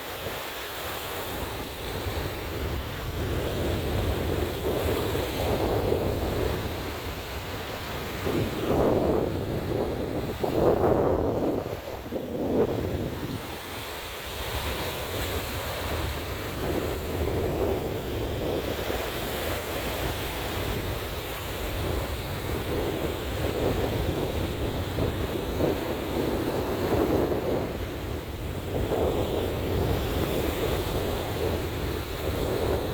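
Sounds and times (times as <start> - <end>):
surf breaking on a beach: 0.0 - 32.9
wind rumbling on microphone: 0.0 - 32.9.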